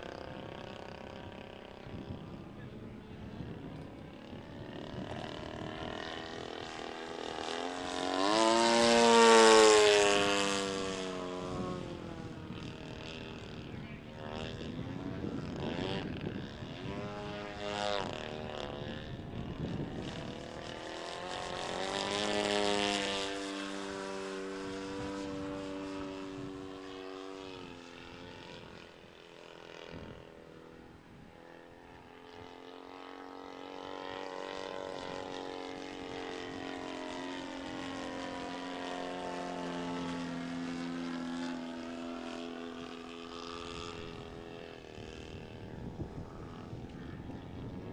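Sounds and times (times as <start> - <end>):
model airplane engine droning: 0.0 - 47.9.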